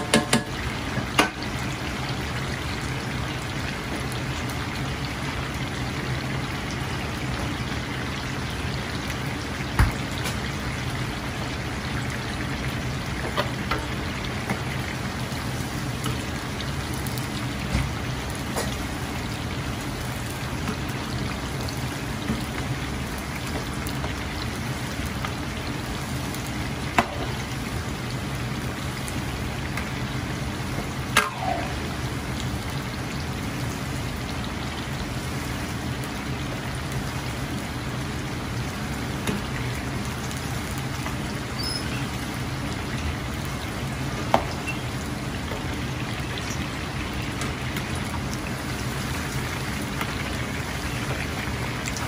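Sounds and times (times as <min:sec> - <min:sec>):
hot oil bubbling and sizzling: 0:00.0 - 0:52.0.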